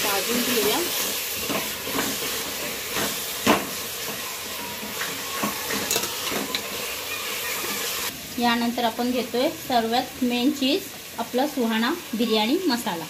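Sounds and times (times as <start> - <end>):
masala sizzling in hot oil: 0.0 - 13.0.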